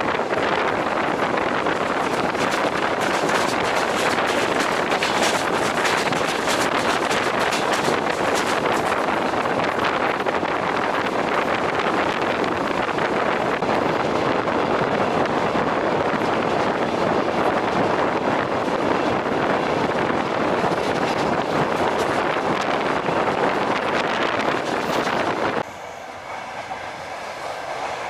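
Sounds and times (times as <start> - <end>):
train wheels on rails: 0.0 - 28.0
wind rush: 0.0 - 28.0.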